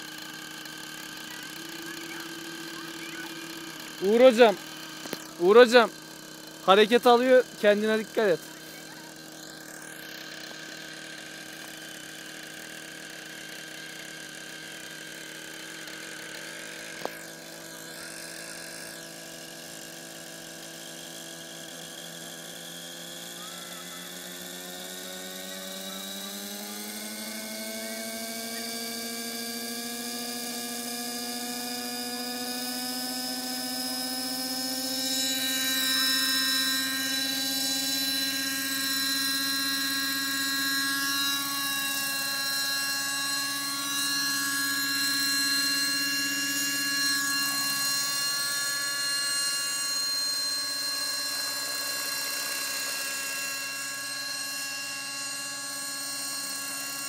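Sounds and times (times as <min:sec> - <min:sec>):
model helicopter engine whining: 0:00.0 - 0:57.0.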